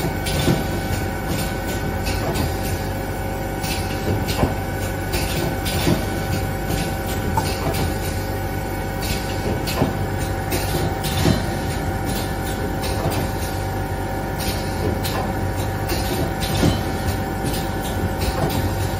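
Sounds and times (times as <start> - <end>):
packing machine humming: 0.0 - 18.9.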